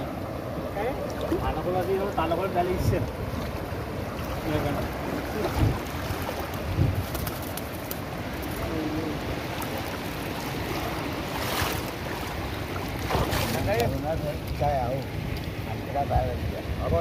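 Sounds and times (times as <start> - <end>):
fast-flowing river water: 0.0 - 17.0
wind buffeting microphone: 1.3 - 17.0.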